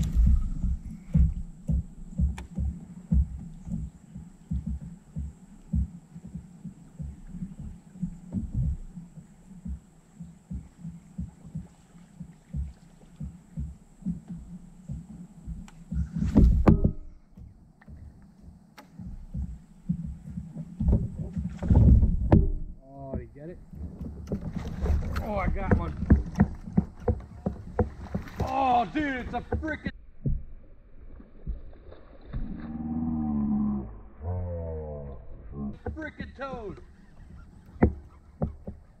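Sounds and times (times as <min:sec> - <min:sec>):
water knocking against plastic hull: 0:00.0 - 0:30.6, 0:35.8 - 0:39.0.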